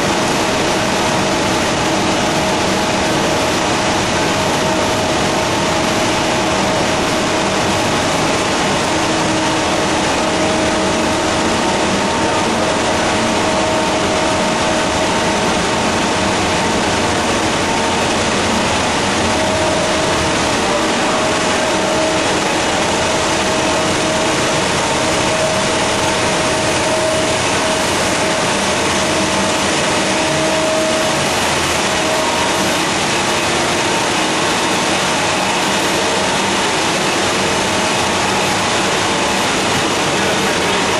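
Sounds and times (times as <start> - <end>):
low machinery hums: 0.0 - 40.9
paper machine running: 0.0 - 40.9.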